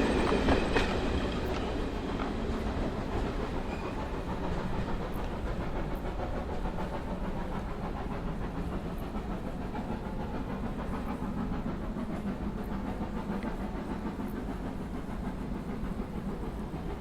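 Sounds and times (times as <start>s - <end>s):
steam locomotive running: 0.0s - 17.0s.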